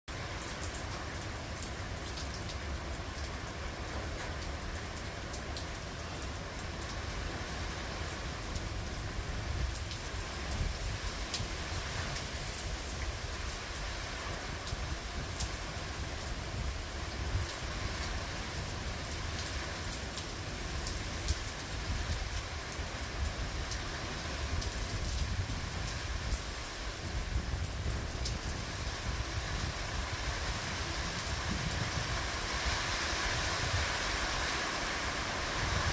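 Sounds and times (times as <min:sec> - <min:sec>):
raindrops ticking on surfaces: 0:00.1 - 0:35.9
steady rain falling: 0:00.1 - 0:35.9.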